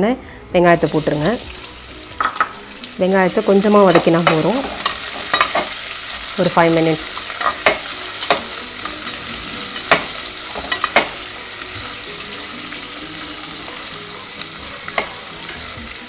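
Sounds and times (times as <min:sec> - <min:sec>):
onions sizzling in oil: 0:00.7 - 0:16.0.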